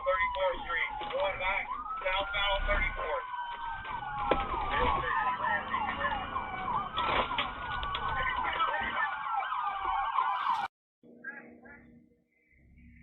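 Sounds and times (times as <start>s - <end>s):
road noise: 0.0s - 10.7s
emergency siren yelping: 0.0s - 12.0s.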